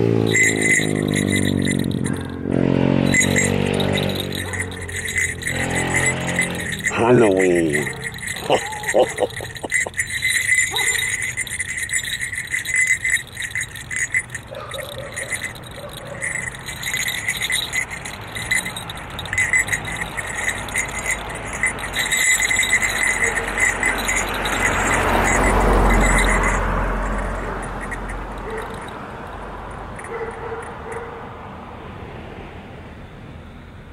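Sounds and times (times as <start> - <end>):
small jingle bells jingling: 0.0 - 31.2.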